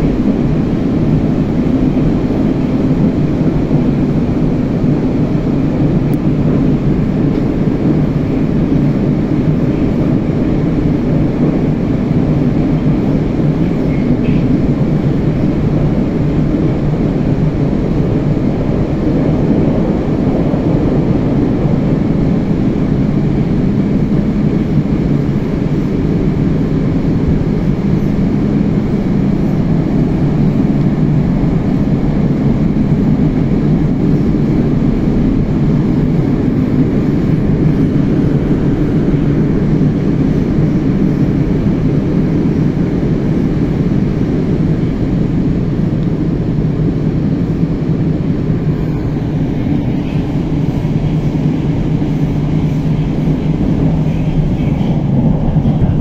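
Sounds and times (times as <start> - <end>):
train running noise: 0.0 - 56.0.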